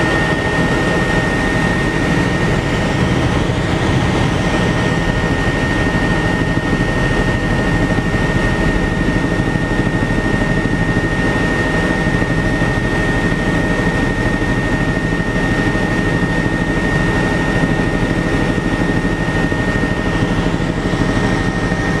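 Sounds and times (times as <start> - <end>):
helicopter engine and rotor drone: 0.0 - 22.0
high steady whine: 0.0 - 22.0.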